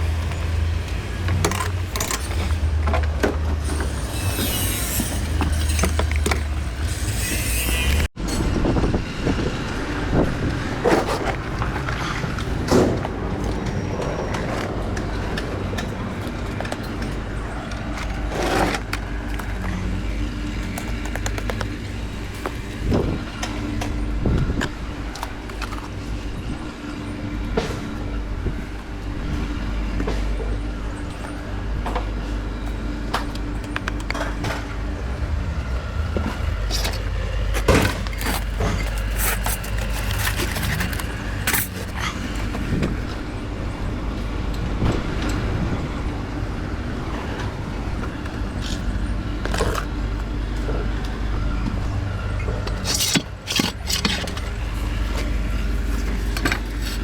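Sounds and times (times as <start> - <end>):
low engine rumble: 7.8 - 57.0.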